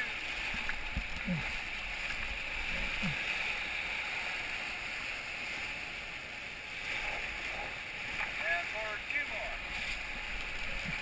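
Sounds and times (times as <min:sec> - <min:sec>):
churning whitewater rushing: 0:00.0 - 0:11.0.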